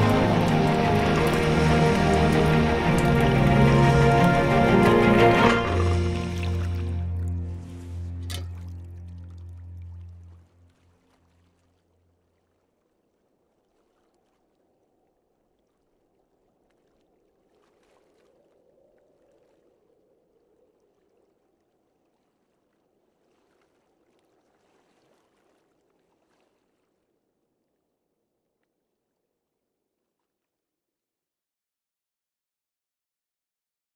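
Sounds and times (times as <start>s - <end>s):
small splashes and drips: 0.0s - 7.5s, 8.2s - 30.5s
water lapping at shore: 0.0s - 30.4s.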